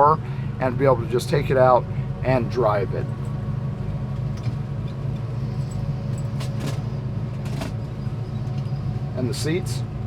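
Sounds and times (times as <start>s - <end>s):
car engine hum from cabin: 0.0s - 10.0s.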